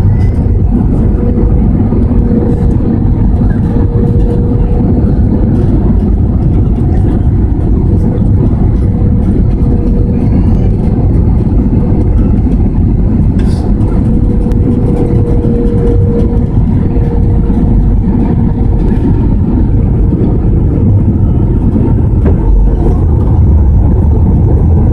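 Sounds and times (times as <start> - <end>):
aircraft cabin engine noise: 0.0 - 24.9
faint steady hum: 0.0 - 24.9.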